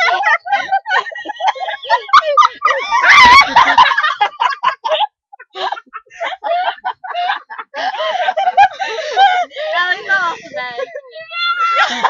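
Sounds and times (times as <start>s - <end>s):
girls laughing hard: 0.0s - 12.0s.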